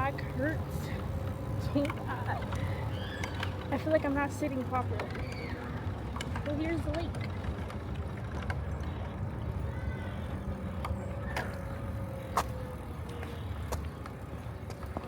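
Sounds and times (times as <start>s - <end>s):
bicycle clicks and rattles: 0.0s - 15.0s
bicycle rolling noise: 0.0s - 15.0s.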